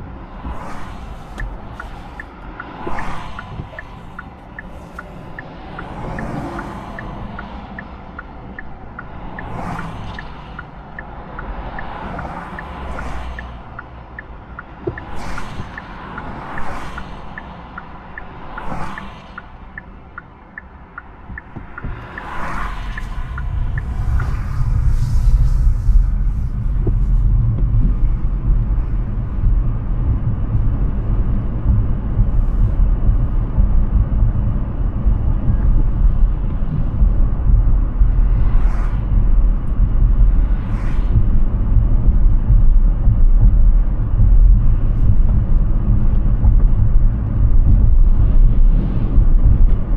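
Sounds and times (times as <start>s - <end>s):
turn signal ticking: 0.0s - 49.9s
tyre rumble on wet road: 0.0s - 49.9s.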